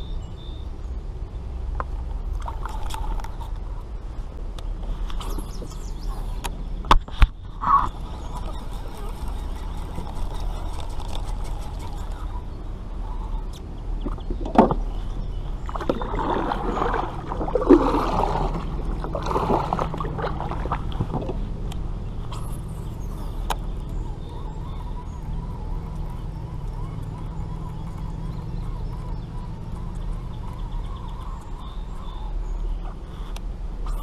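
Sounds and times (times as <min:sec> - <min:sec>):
steady low hum: 0:00.0 - 0:34.0
water sloshing and gurgling: 0:01.7 - 0:33.2.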